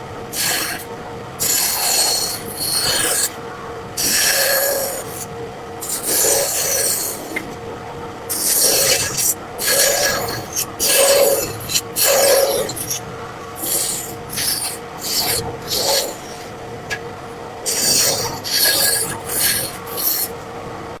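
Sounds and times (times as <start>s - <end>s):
wood being scraped by hand: 0.3s - 3.4s, 4.0s - 7.4s, 8.3s - 16.6s, 17.7s - 20.4s.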